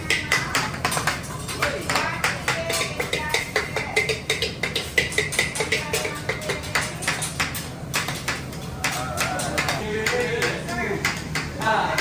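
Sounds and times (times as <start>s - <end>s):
spatula clanking on metal griddle: 0.0s - 12.0s.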